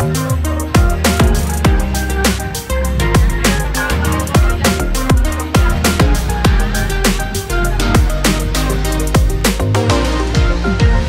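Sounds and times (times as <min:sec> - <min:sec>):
electronic music with kick drums: 0:00.0 - 0:11.0.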